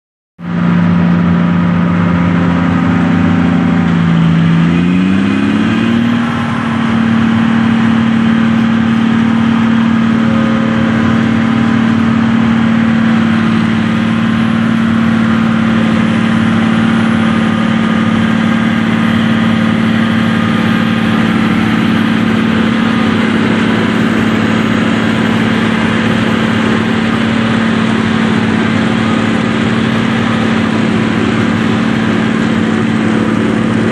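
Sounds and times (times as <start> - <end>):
harvester engine and chopper drone: 0.4 - 33.9.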